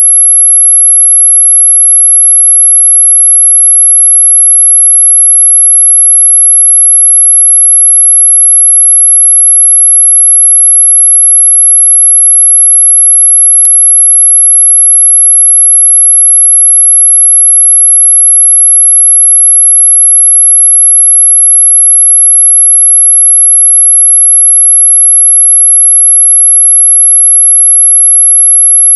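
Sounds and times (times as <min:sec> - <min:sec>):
high-pitched whistle tone: 0:00.0 - 0:28.9.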